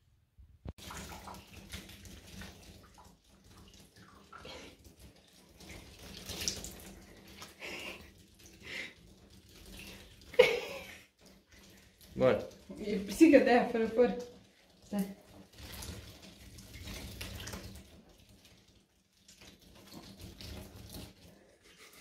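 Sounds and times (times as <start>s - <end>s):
bath tap running: 0.7s - 22.0s
bathwater splashing: 0.7s - 22.0s.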